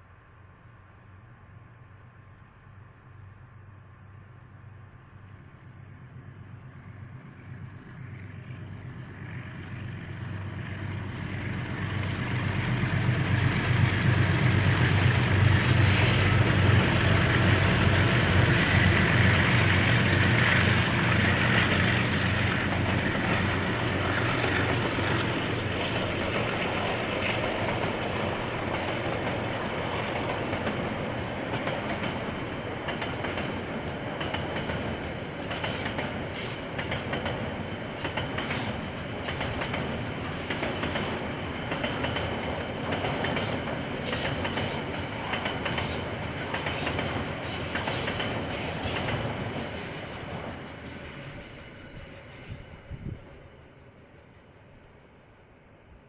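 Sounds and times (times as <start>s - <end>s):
train wheels on rails: 4.8s - 55.1s.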